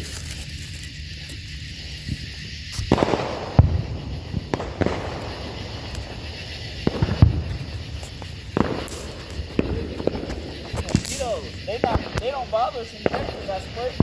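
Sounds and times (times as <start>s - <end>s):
fireworks crackling pops: 0.0s - 14.0s
fireworks sharp bangs: 1.4s - 14.0s.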